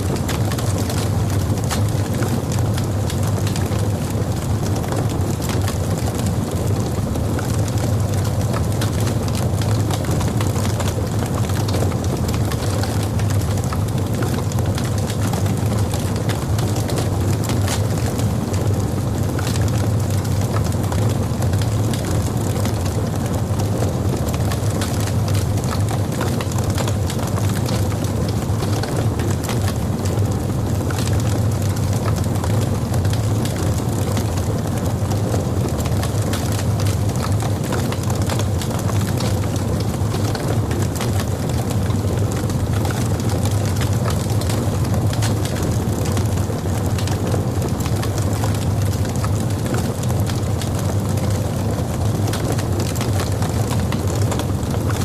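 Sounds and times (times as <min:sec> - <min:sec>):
fire rumbling in fireplace: 0:00.0 - 0:55.0
wood crackling and popping: 0:00.0 - 0:55.0.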